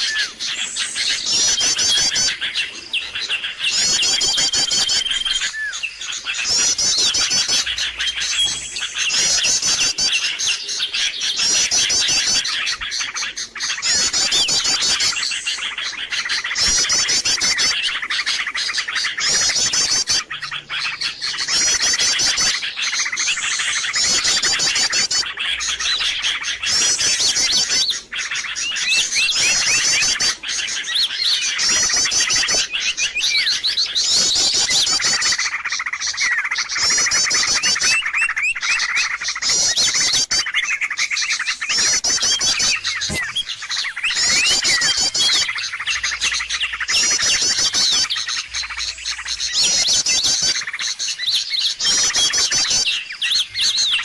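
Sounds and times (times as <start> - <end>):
small birds chirping and trilling: 0.0 - 54.0.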